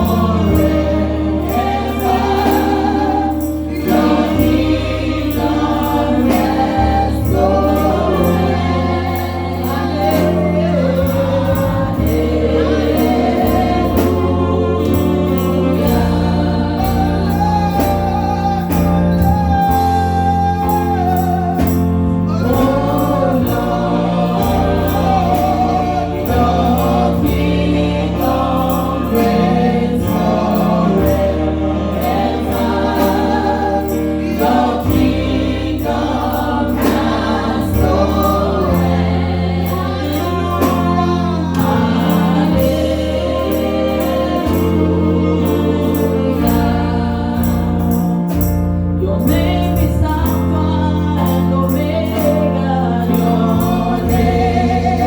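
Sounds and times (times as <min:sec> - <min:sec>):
band with steady bass line: 0:00.0 - 0:55.0
choir singing: 0:00.0 - 0:55.0
regular high beat: 0:00.0 - 0:55.0.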